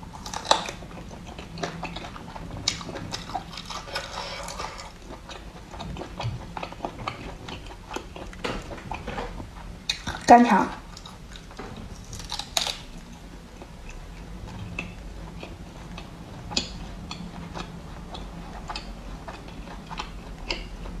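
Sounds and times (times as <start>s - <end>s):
chewing and biting crunches: 0.0s - 21.0s.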